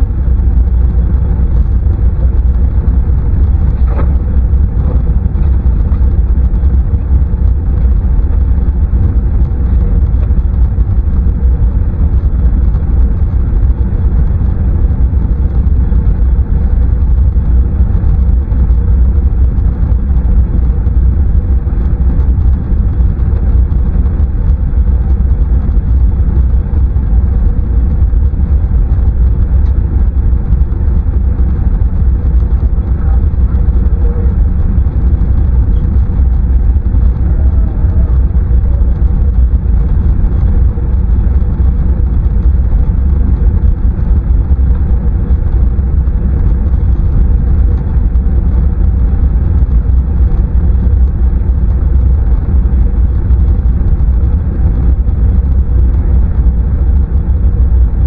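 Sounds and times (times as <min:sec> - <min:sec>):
faint steady whine: 0:00.0 - 0:58.0
jet engines rumbling overhead: 0:00.0 - 0:58.0.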